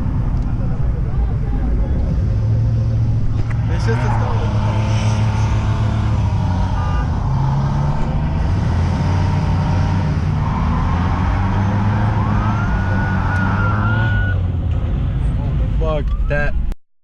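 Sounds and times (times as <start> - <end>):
car engines running: 0.0 - 16.8.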